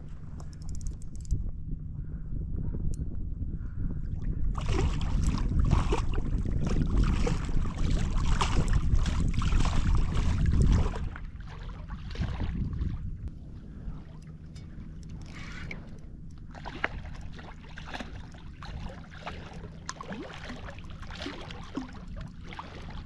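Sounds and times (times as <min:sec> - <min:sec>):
wind rumbling on microphone: 0:00.0 - 0:23.0
water splashing around a kayak: 0:04.5 - 0:23.0.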